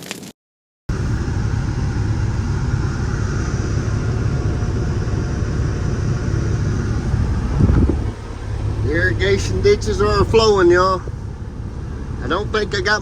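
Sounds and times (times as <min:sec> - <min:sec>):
truck engine and road rumble: 0:00.9 - 0:13.0.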